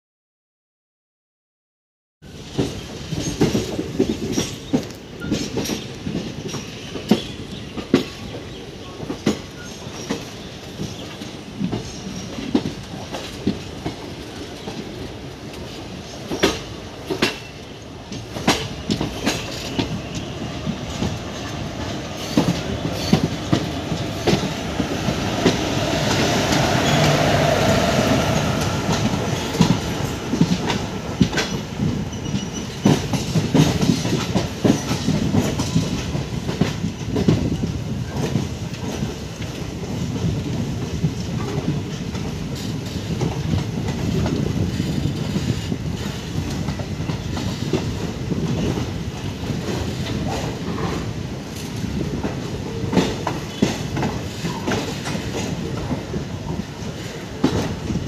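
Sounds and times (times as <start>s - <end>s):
train rumbling past: 2.2s - 58.0s
wheels clicking over rail joints: 2.4s - 58.0s.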